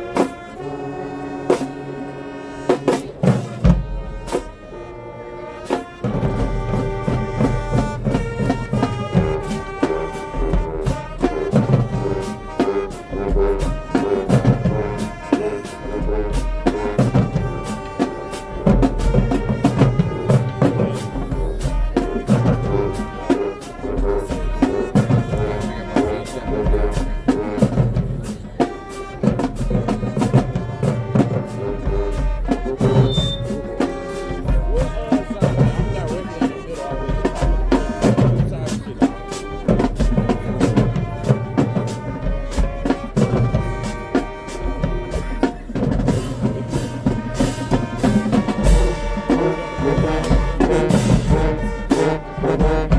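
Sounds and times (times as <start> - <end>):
held brass chords: 0.0 - 52.9
marching band playing: 0.0 - 52.9
steady drum beats: 0.0 - 52.9.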